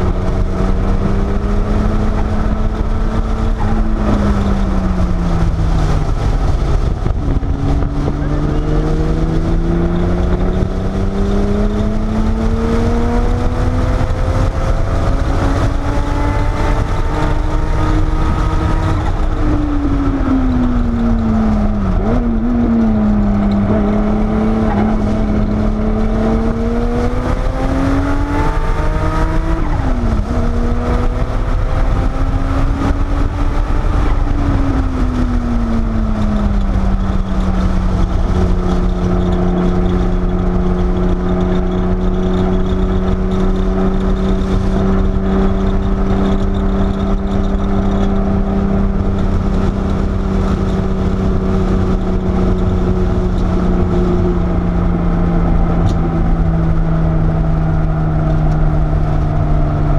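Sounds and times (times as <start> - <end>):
car engine revving: 0.0 - 59.9
wind and road noise rumble: 0.0 - 59.9.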